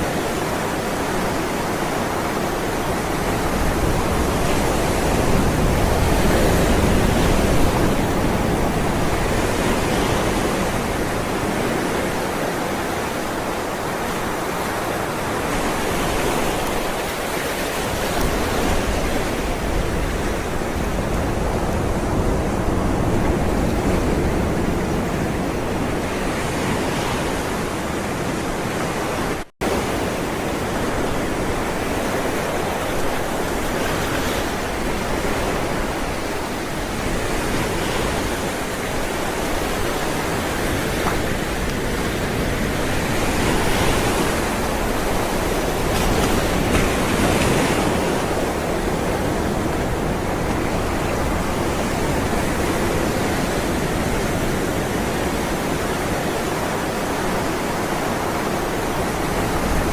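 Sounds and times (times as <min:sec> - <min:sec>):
ocean waves on shore: 0:00.0 - 0:59.9.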